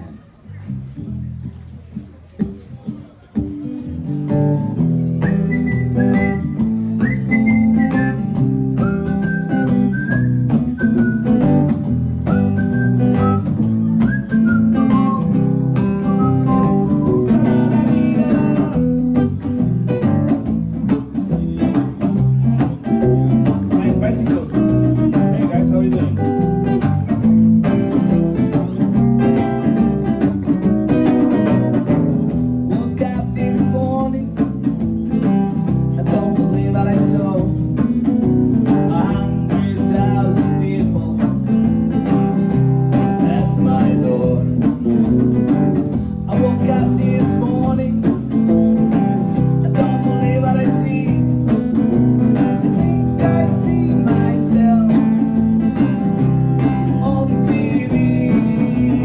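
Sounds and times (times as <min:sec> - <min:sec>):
plucked guitar and bass: 0:00.0 - 0:59.0
steady drum beat: 0:03.3 - 0:59.0.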